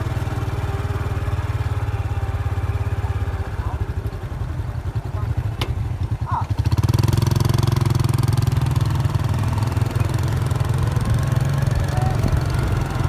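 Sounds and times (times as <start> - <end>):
small motorbike engine idling: 0.0 - 13.0.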